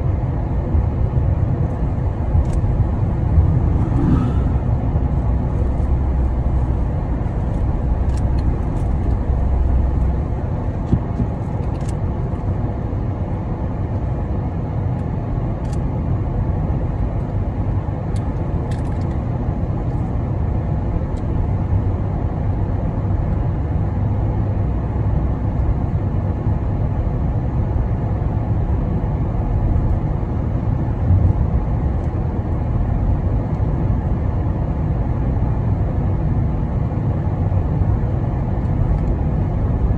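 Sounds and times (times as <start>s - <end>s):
car road noise at cruising speed: 0.0s - 39.9s.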